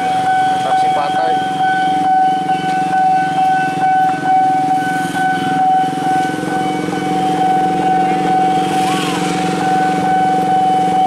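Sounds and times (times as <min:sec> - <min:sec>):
level crossing warning alarm: 0:00.0 - 0:11.0
motorcycle engines idling: 0:00.0 - 0:11.0.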